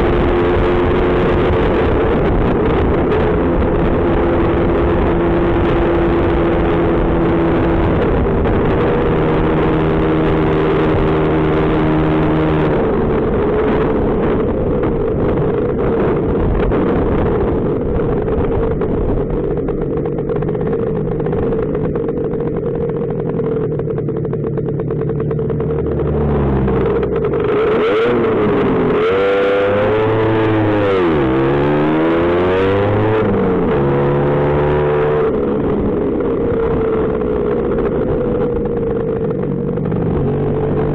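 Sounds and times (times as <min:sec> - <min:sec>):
two-stroke scooter engine: 0:00.0 - 0:40.9
wind rushing over microphone: 0:00.0 - 0:40.9.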